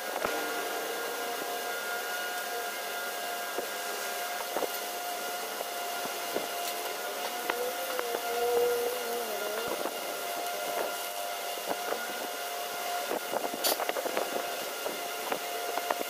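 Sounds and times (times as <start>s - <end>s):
motor whine: 0.0s - 16.0s
rushing air hiss: 0.0s - 16.0s.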